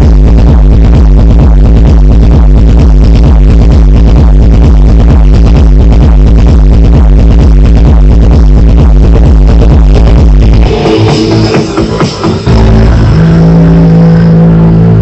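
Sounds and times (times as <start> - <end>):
electronic dance music with bass: 0.0 - 15.0.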